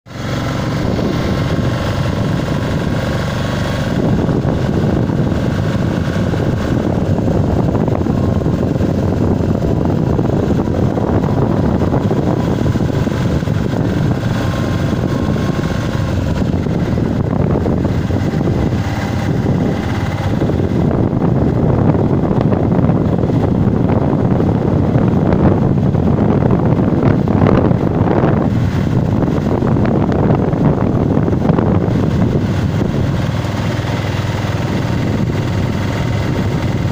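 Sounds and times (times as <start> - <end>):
vehicle road noise: 0.0 - 36.9
wind buffeting microphone: 0.1 - 36.9.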